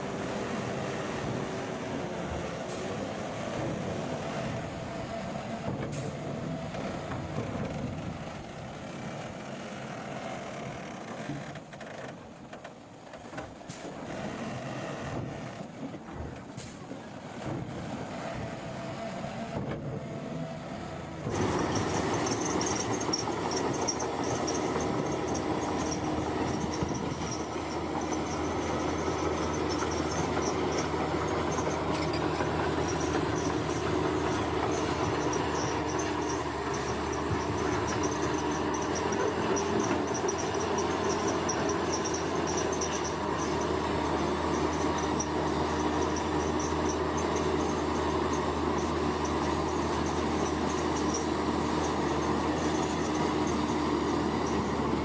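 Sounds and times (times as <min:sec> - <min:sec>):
bulldozer diesel engine and tracks: 0:00.0 - 0:55.0.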